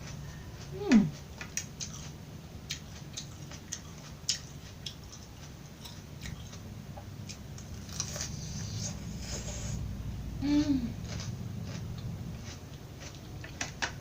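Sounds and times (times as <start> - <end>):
crunchy chewing of raw vegetables: 0.0 - 9.9, 10.5 - 14.0
low steady hum: 0.0 - 14.0.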